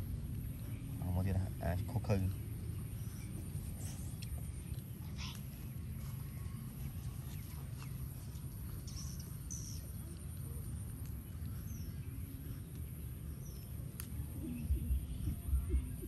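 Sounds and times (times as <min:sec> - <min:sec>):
steady low rumble: 0:00.0 - 0:16.0
faint bird chirps: 0:00.4 - 0:16.0.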